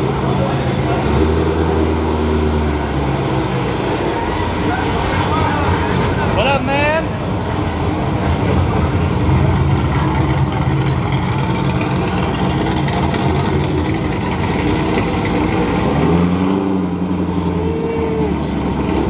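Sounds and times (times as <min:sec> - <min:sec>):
car engine running low: 0:00.0 - 0:19.0.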